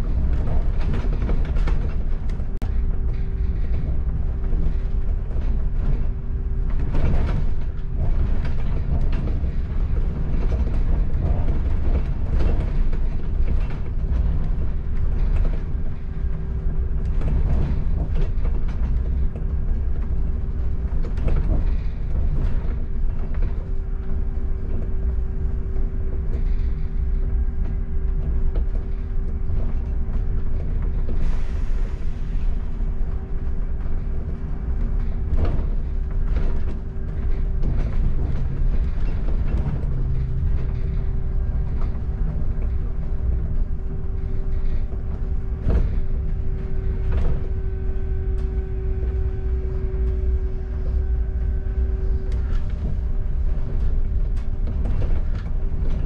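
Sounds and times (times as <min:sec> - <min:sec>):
bus engine and road rumble: 0:00.0 - 0:56.0
bus fittings rattling and creaking: 0:00.0 - 0:56.0
constant hum: 0:00.0 - 0:56.0.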